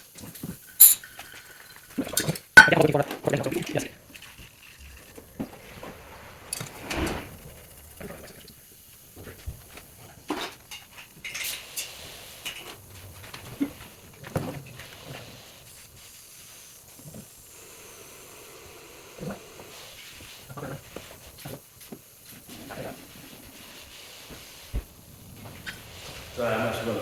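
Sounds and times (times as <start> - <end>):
compressed air hissing: 4.0 - 27.0.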